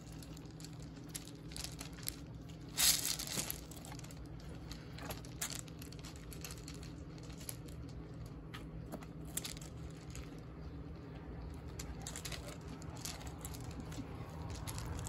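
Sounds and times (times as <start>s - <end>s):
paws crunching on pebbles: 0.0s - 15.0s.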